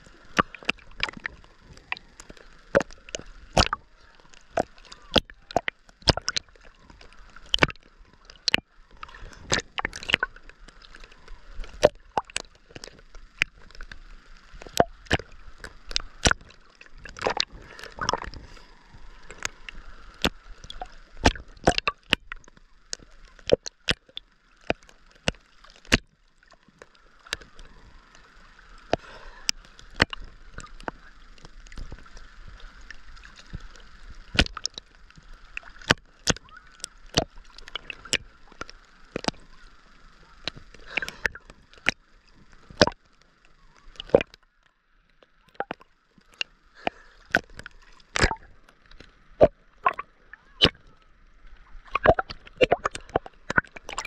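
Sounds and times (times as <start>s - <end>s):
waves slapping camera: 0.0s - 44.4s, 45.5s - 50.9s, 51.5s - 54.0s
muffled hiss: 0.0s - 54.0s
water sloshing against camera: 0.0s - 54.0s.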